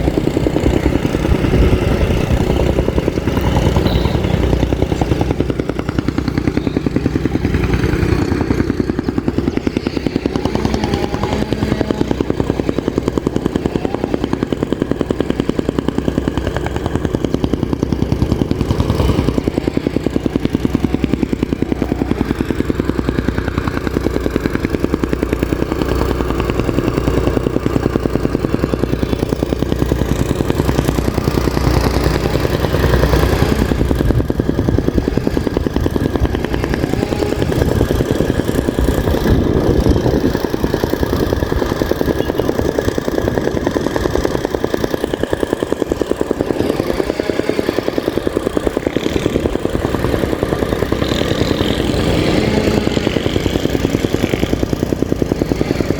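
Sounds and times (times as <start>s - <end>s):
soil compactor engine pulsing: 0.0s - 55.9s.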